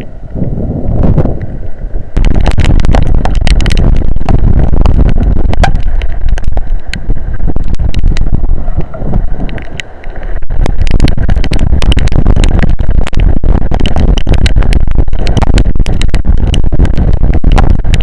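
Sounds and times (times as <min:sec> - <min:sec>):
rain ticking on microphone: 0:00.0 - 0:18.0
storm wind buffeting microphone: 0:00.0 - 0:18.0.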